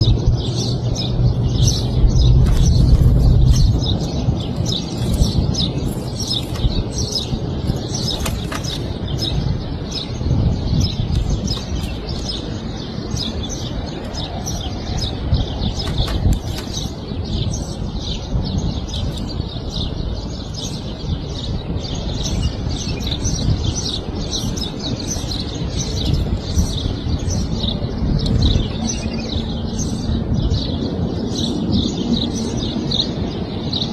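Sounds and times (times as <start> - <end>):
small birds chirping: 0.0 - 33.9
steady low rumble: 0.0 - 33.9.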